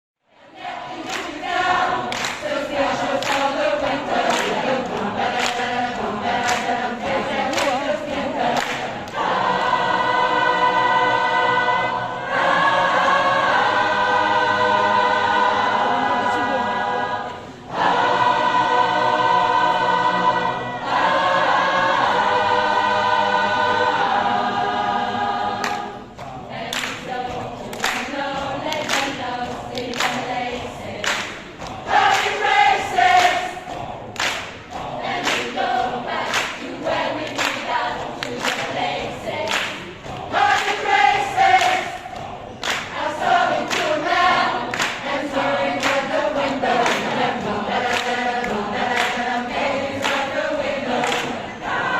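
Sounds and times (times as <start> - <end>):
mixed choir singing: 0.2 - 51.9.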